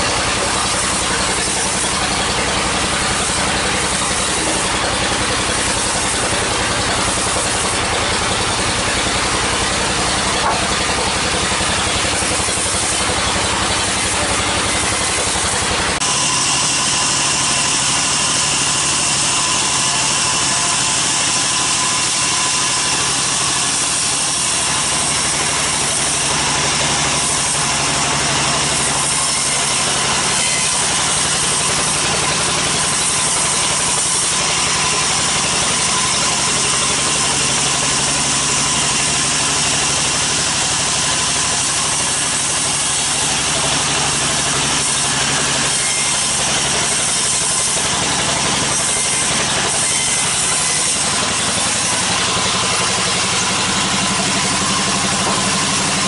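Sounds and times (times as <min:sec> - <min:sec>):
bandsaw cutting log: 0:00.0 - 0:56.0.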